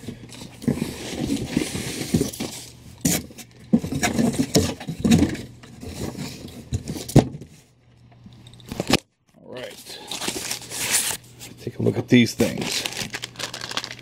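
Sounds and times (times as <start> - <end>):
packaging rustling and scraping: 0.0 - 7.7, 9.6 - 11.6, 12.4 - 14.0.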